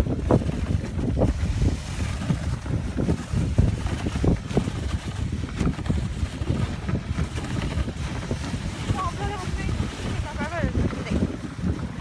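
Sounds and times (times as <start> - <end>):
sled gliding over snow rumble: 0.0 - 12.0
wind buffeting microphone: 0.0 - 12.0.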